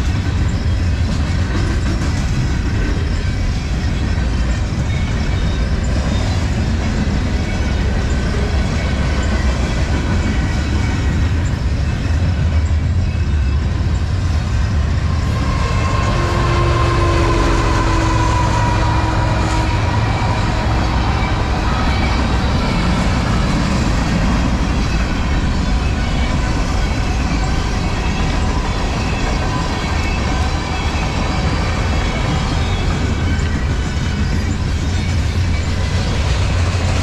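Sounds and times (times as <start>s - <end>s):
diesel locomotive engine: 0.0s - 37.0s.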